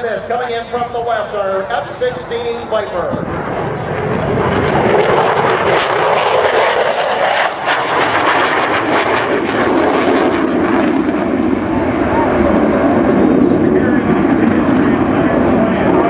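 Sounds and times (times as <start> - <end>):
fighter jet flying past: 0.0 - 16.0.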